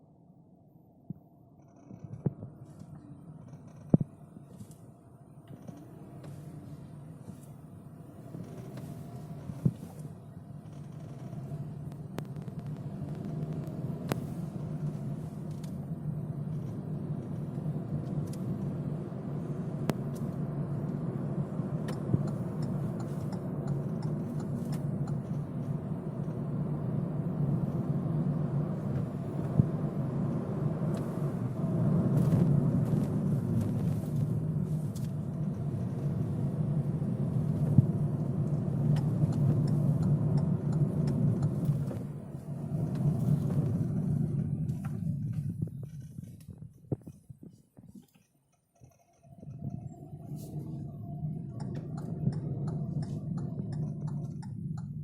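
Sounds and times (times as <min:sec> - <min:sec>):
car road and engine rumble: 0:00.0 - 0:55.0
interior trim clicks and creaks: 0:01.5 - 0:26.8, 0:27.5 - 0:55.0.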